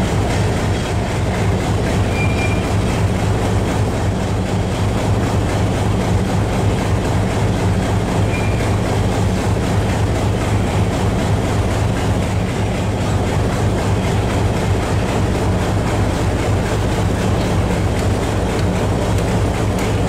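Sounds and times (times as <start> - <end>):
train coaches rumbling: 0.0 - 20.0.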